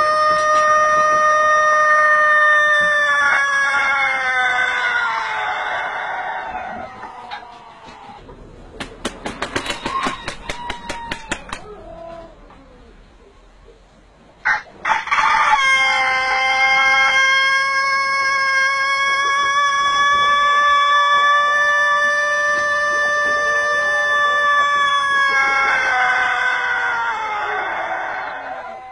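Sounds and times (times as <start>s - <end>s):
rooster crowing: 0.0s - 8.0s, 9.6s - 12.4s, 14.4s - 28.9s.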